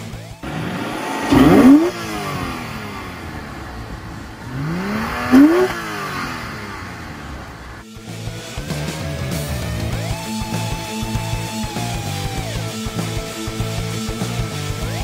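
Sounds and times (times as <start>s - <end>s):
car engine revving: 0.2s - 15.0s.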